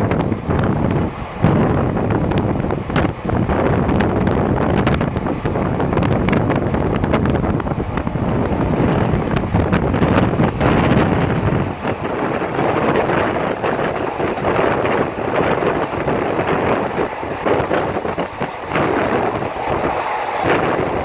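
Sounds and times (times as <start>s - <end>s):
train rumbling: 0.0s - 21.0s
wind buffeting microphone: 0.0s - 21.0s.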